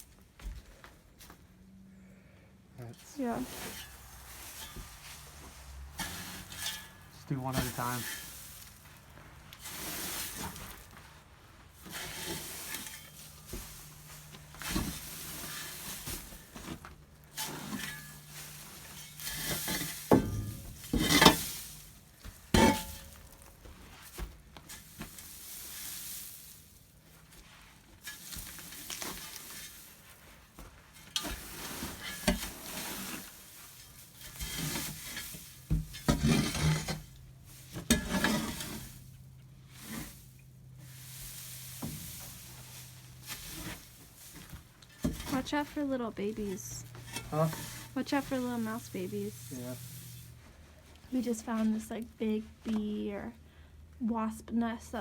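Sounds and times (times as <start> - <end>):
dry hay rustling and crunching: 2.8 - 53.0
hay scraping: 2.8 - 53.2.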